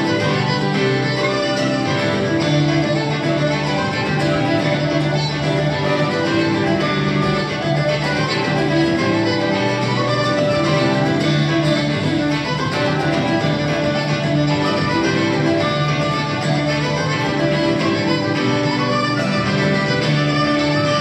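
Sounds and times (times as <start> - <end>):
fiddle dance music: 0.0 - 21.0.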